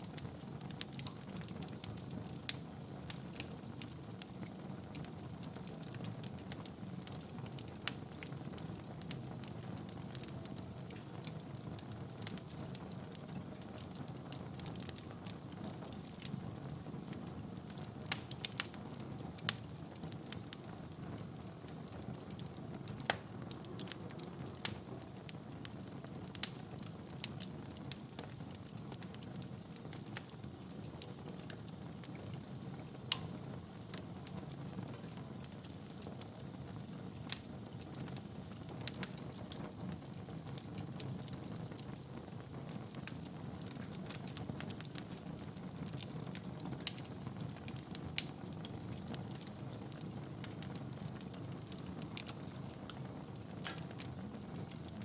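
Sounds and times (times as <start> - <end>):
burning logs popping: 0.0 - 55.0
fire crackling: 0.0 - 55.0
rumble of fire flames: 0.0 - 55.0.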